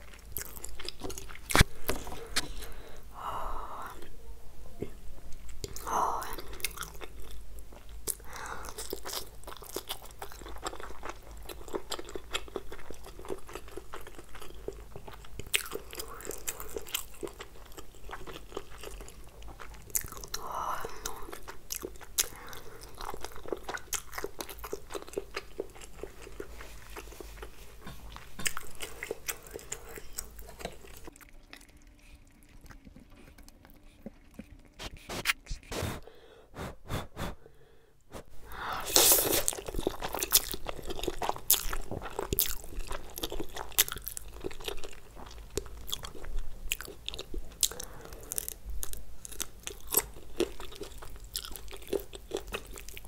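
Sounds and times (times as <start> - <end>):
chewing and crunching food: 0.0 - 3.0, 4.8 - 36.0, 38.1 - 53.0.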